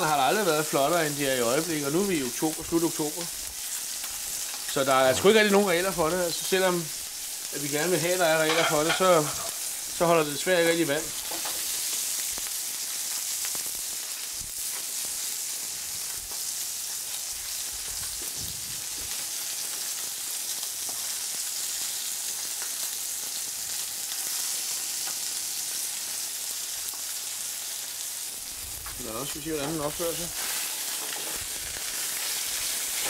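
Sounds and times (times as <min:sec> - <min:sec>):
fish frying in oil sizzling: 0:00.0 - 0:33.0.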